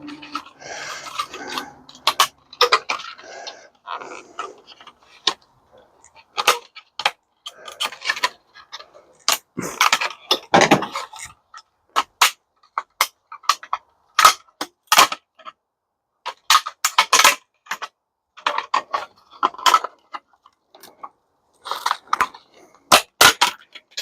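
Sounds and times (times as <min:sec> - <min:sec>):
metal and plastic parts rattling: 0:00.0 - 0:05.4, 0:06.0 - 0:15.6, 0:16.2 - 0:24.0.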